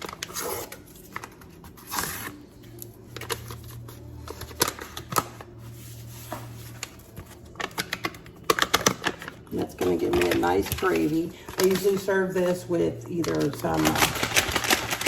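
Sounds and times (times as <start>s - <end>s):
paper packets rustling: 0.0s - 15.0s.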